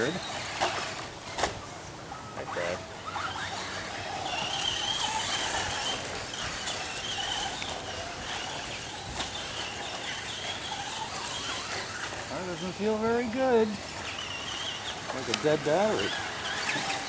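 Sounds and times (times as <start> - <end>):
toy trucks rattling on track: 0.0 - 1.7, 2.6 - 17.0
electric motors whining: 0.0 - 17.0.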